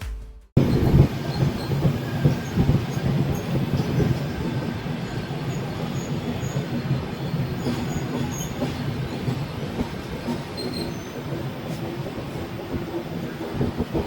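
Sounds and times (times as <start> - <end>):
train wheels rumbling on track: 0.6 - 14.0.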